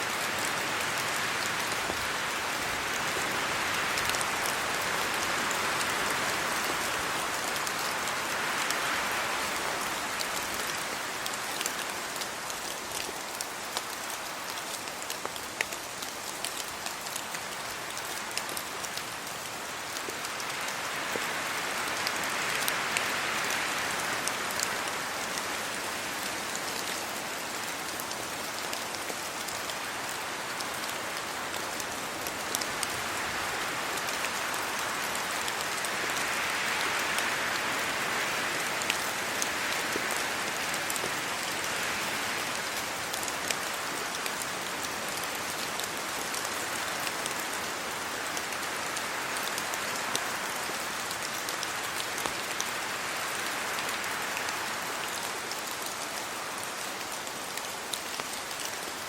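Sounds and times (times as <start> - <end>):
steady rain falling: 0.0 - 59.0
wind through tree leaves: 0.0 - 59.0.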